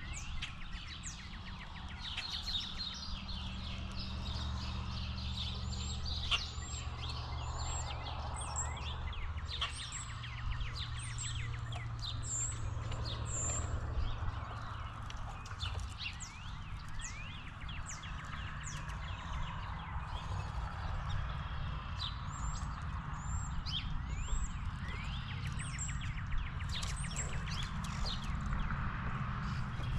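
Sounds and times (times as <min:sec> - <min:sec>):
wild birds chirping: 0:00.0 - 0:29.9.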